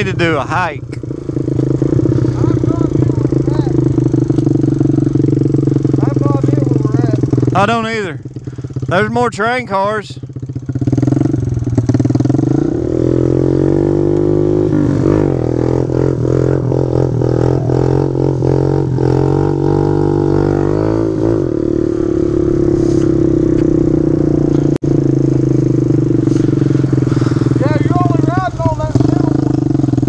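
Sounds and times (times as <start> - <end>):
small motorbike engine: 0.0 - 30.0.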